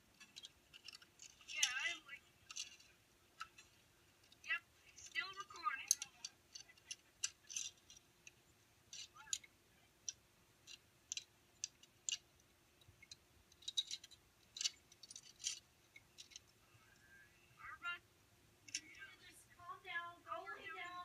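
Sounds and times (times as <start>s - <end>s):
light clinks: 0.0s - 17.1s.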